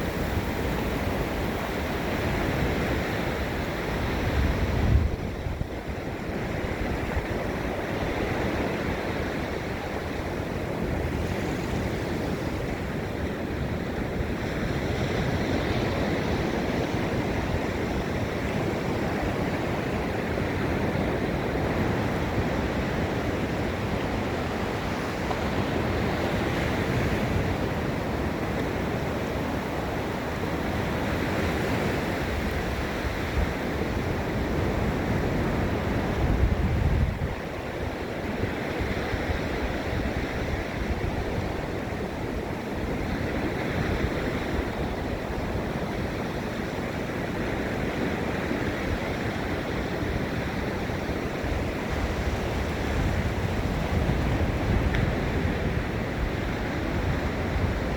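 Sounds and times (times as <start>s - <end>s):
ocean waves breaking on beach: 0.0s - 57.9s
wind rumble on microphone: 0.0s - 57.9s.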